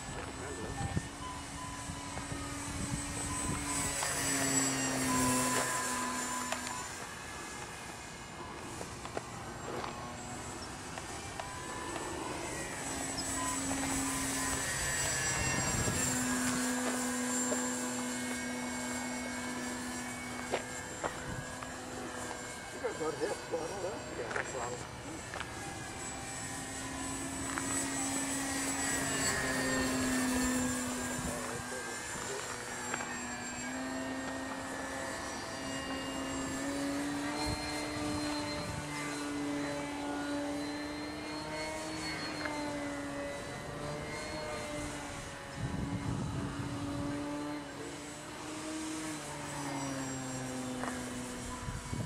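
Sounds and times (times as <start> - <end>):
model plane motor and propeller: 0.0 - 52.0.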